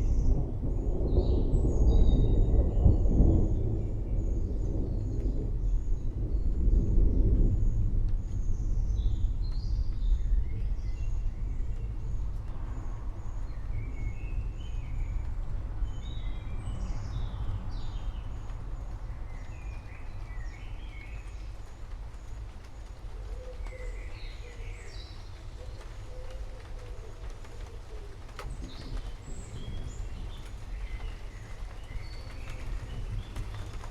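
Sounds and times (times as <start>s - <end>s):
songbirds chirping: 0.0s - 33.9s
thunder rumbling: 0.0s - 33.9s.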